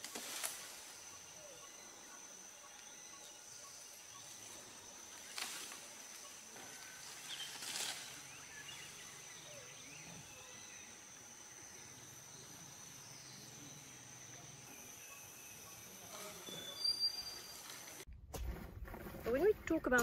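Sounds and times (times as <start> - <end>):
high-pitched insect drone: 0.2 - 18.0
faint chirps: 0.7 - 18.1.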